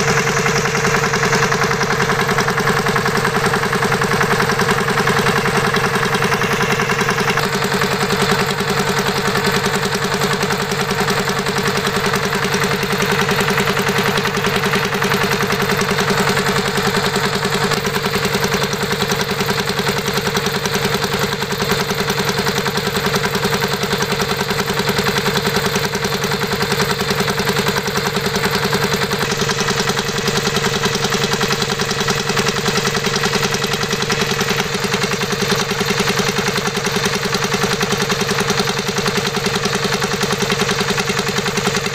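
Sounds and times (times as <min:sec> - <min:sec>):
small diesel engine pump running: 0:00.0 - 0:41.9.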